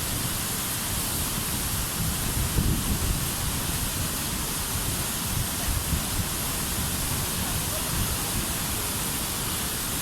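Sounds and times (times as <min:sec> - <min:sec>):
water rushing through spillway: 0:00.0 - 0:10.0.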